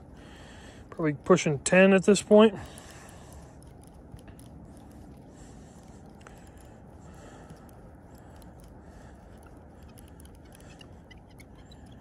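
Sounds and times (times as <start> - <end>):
low outdoor background rush: 0.0 - 12.0.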